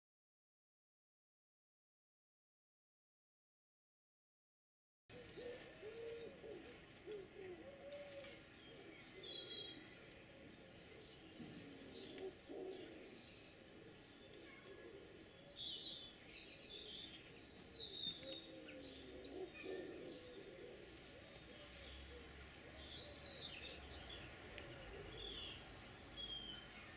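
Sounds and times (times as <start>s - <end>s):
birds chirping and singing: 5.1s - 26.9s
low slow bird calls: 5.1s - 26.9s.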